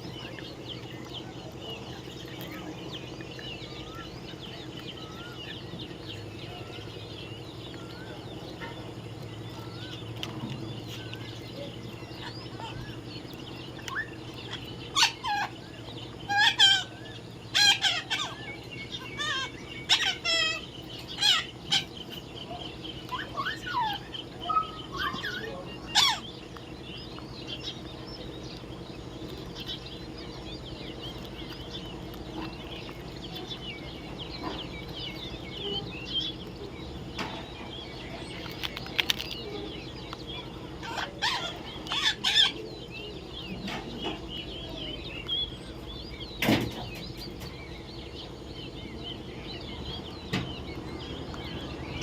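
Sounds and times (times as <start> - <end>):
parrots chirping and squawking: 0.0 - 52.0
steady low hum: 0.0 - 52.0.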